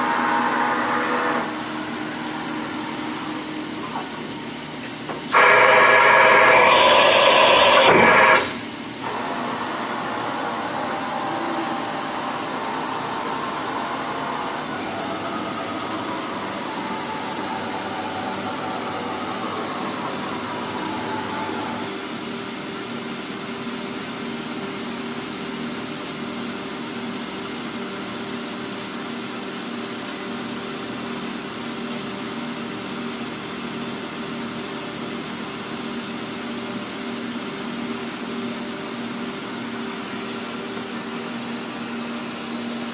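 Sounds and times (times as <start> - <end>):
milling machine hum and whine: 0.0 - 42.9.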